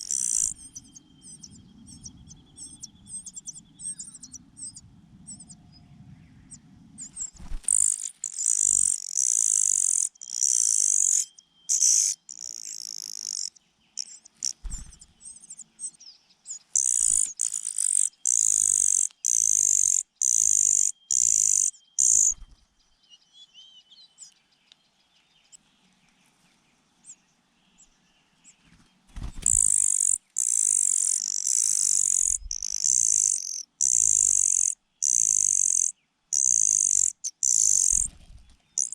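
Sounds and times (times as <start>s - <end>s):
nestling birds begging calls: 0.0s - 5.6s, 7.0s - 22.6s, 28.6s - 38.9s.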